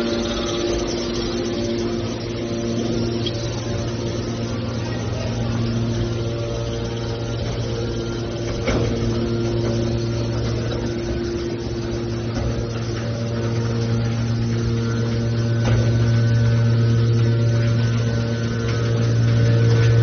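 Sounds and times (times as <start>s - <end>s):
hydraulic power unit humming: 0.0s - 20.0s.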